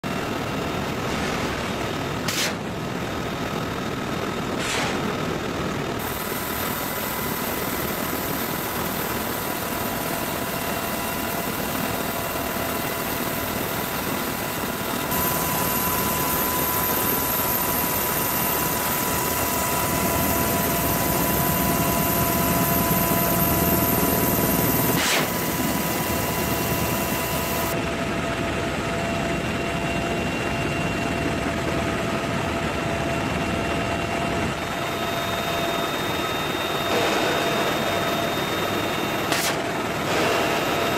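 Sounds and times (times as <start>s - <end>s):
helicopter rotor and engine: 0.0s - 40.9s
high turbine whine: 0.0s - 40.9s.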